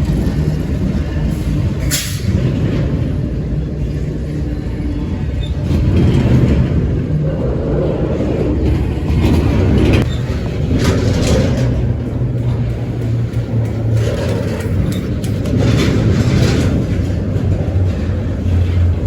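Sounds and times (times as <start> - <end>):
diesel locomotive rumble: 0.0 - 19.0
wheel-on-rail noise: 0.0 - 19.0.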